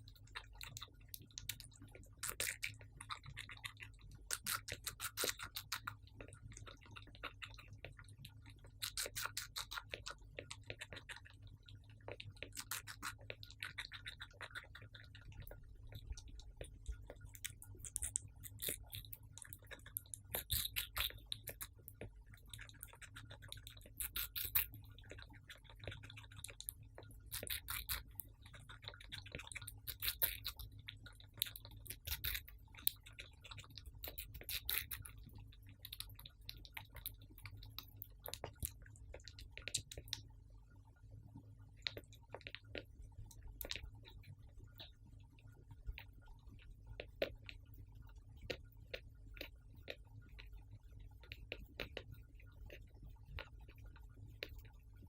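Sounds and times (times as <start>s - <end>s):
hamster chewing: 0.0s - 55.0s.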